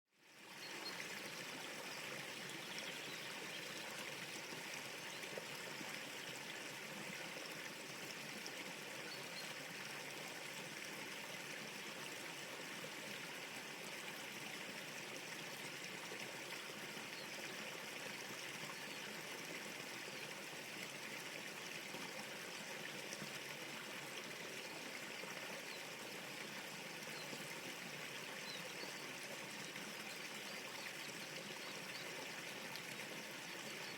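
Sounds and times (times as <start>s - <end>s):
river water flowing: 0.2s - 33.9s.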